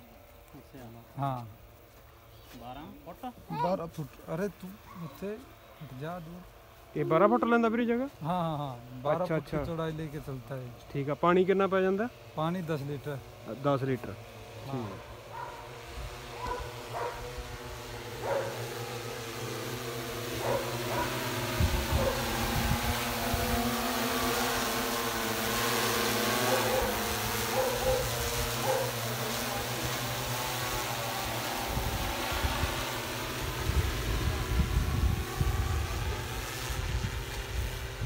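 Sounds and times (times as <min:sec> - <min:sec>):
drone rotors humming: 0:04.4 - 0:38.0.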